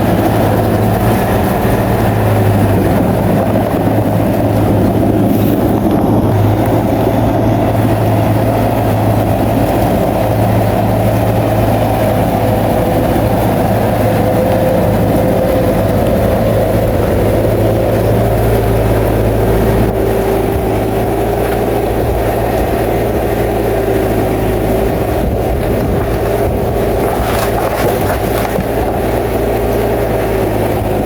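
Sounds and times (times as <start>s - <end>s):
bulldozer diesel engine running: 0.0s - 31.0s
whining tone: 0.0s - 31.0s.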